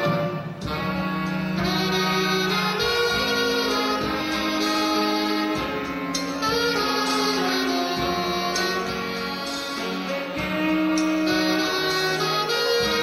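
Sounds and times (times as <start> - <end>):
saxophone ensemble playing: 0.0 - 13.0.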